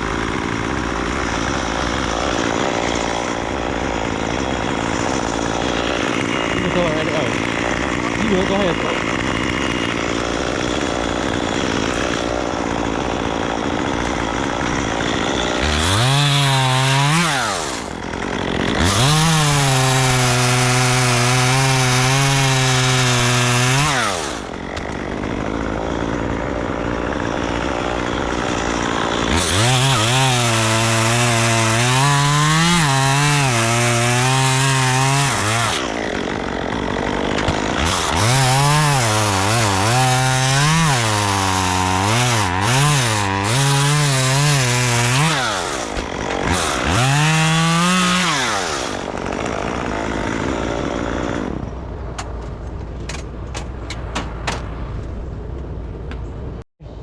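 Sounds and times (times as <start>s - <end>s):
chainsaw engine revving: 0.0s - 51.7s
chainsaw cutting wood: 0.0s - 51.8s.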